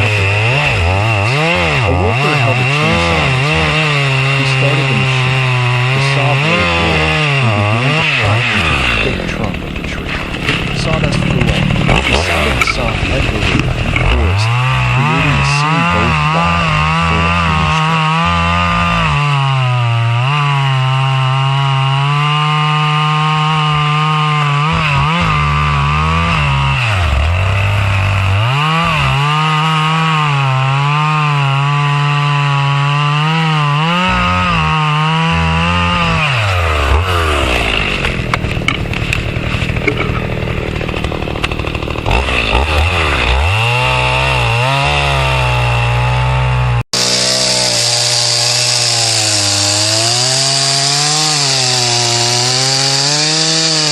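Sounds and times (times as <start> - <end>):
chainsaw cutting tree trunk: 0.0 - 53.9.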